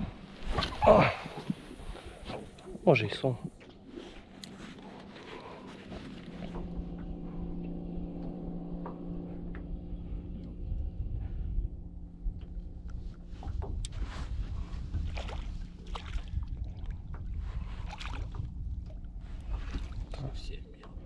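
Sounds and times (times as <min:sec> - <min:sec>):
low rumble: 0:00.0 - 0:21.0
outboard engine droning: 0:00.0 - 0:21.0.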